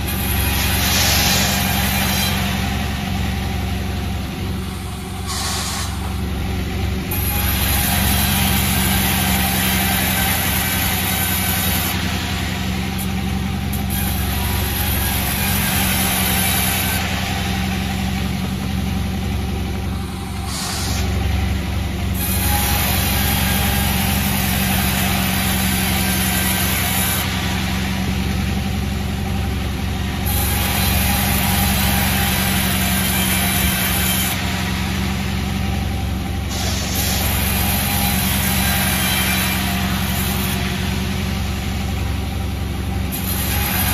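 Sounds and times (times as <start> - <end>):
saw cutting through timber: 0.0 - 43.9
sawmill machine hum: 0.0 - 43.9.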